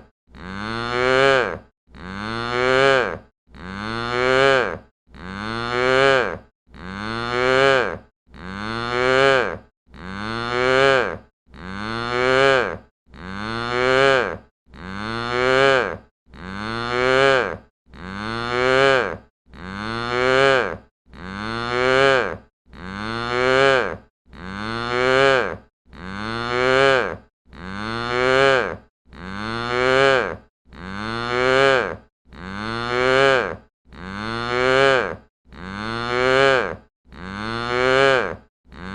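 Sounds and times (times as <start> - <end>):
cow mooing: 0.4 - 38.9.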